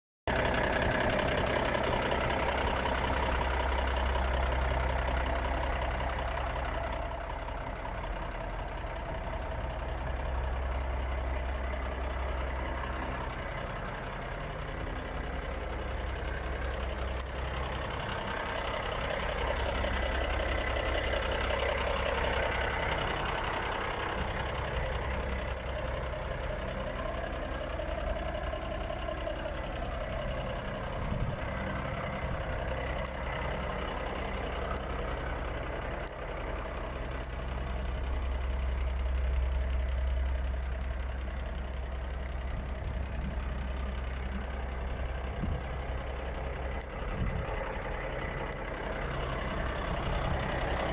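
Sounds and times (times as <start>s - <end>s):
diesel truck engine idling: 0.3s - 50.9s.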